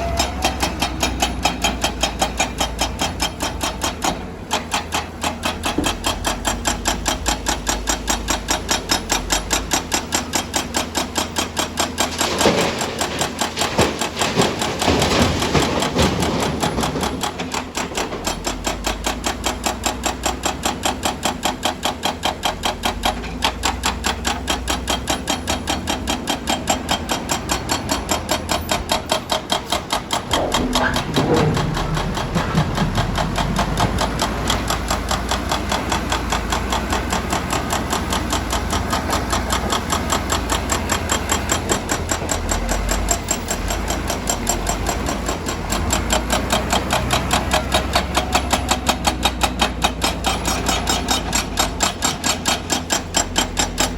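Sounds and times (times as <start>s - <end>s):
excavator engine running: 0.0s - 53.9s
hydraulic breaker hammering rock: 0.0s - 53.9s.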